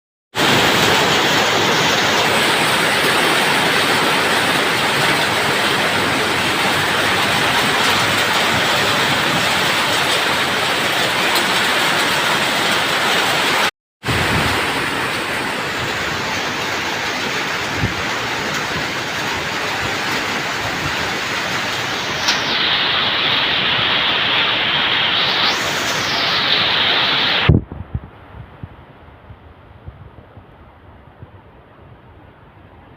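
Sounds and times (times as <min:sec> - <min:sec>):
heavy rain pouring: 0:00.3 - 0:28.9.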